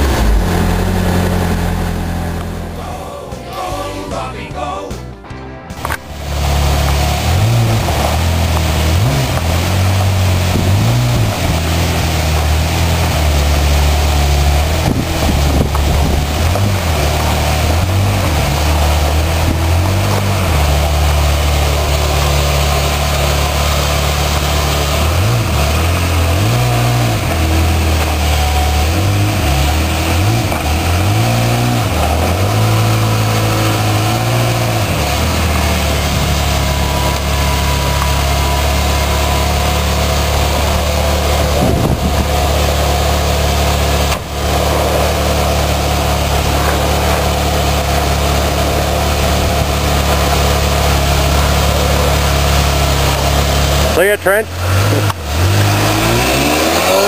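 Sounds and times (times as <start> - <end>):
engine throttle blips: 0.0 - 4.0, 5.7 - 57.0
car engine idling: 0.0 - 4.1, 5.7 - 57.0.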